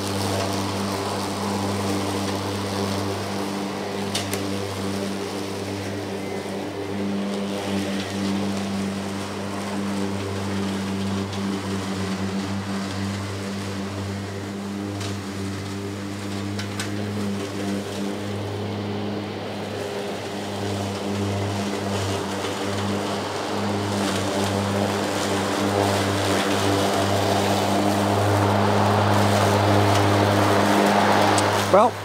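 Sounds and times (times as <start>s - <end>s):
electric mower humming: 0.0s - 32.0s.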